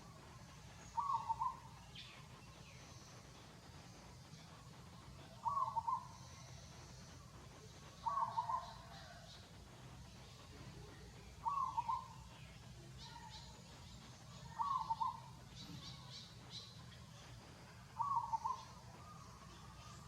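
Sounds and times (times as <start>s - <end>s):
faint high bird chirps: 0.0s - 4.4s, 5.0s - 9.5s, 10.1s - 20.0s.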